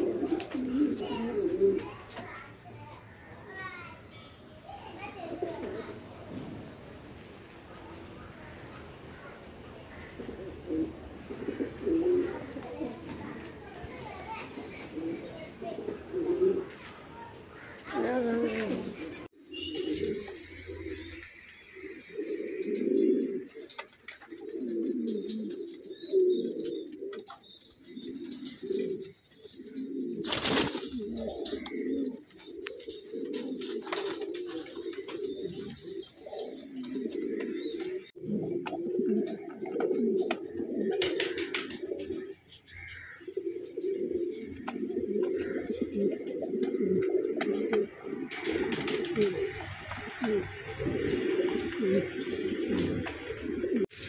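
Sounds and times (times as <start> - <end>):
pigeons cooing: 0.0 - 6.5, 7.6 - 54.0.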